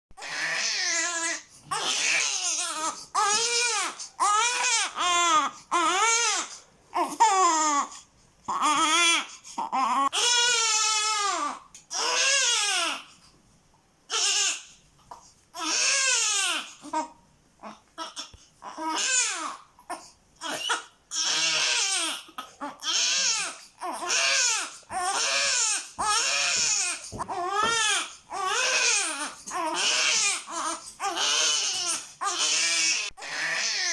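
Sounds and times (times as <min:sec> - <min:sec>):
newborn baby crying: 0:00.2 - 0:13.1, 0:14.1 - 0:33.9.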